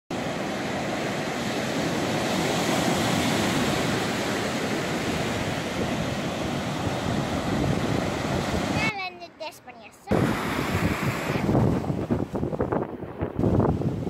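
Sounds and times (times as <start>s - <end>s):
waves breaking on beach: 0.1s - 14.0s.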